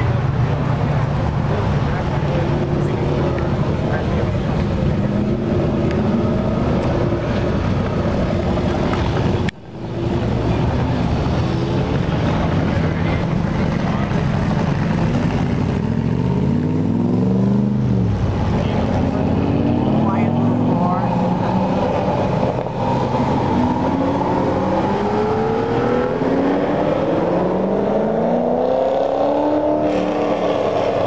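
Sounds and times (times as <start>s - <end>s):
car engines accelerating: 0.0s - 31.0s.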